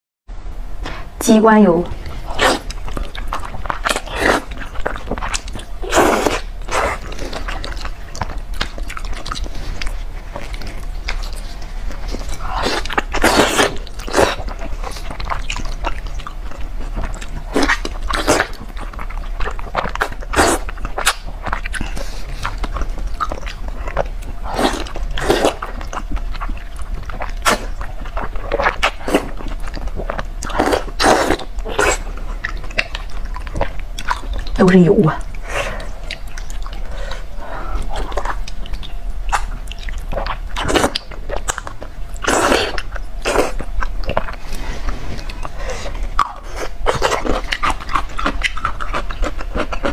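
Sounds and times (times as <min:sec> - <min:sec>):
wet chewing: 0:01.9 - 0:49.9.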